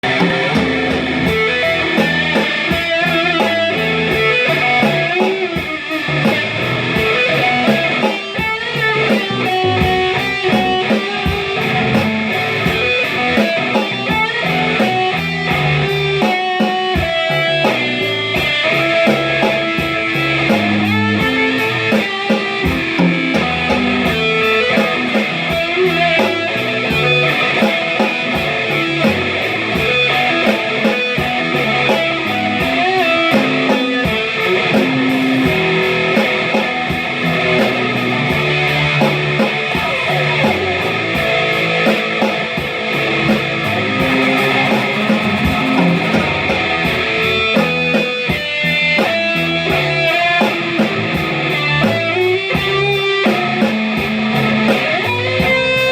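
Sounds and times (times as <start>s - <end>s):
guitar music: 0.0s - 55.9s.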